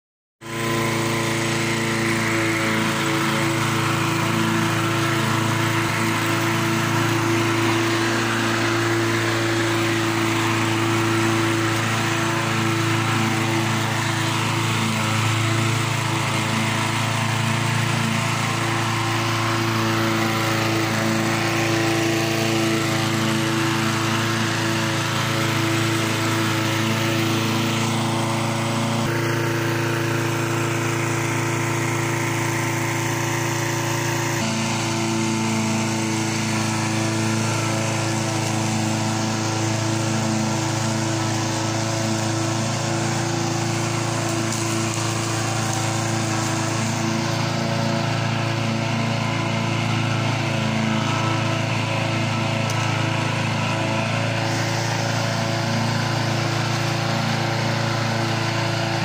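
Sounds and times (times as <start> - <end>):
lawnmower engine cutting grass: 0.4 - 59.0.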